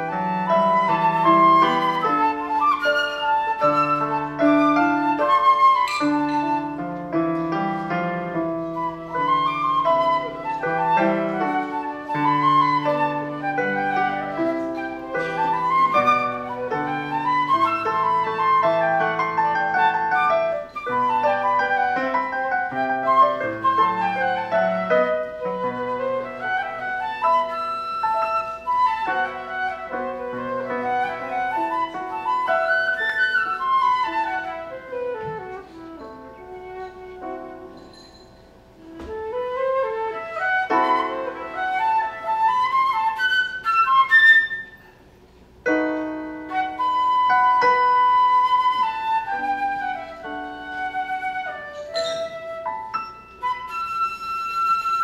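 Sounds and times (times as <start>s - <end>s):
flute melody: 0.0s - 55.0s
piano accompaniment: 0.0s - 55.0s.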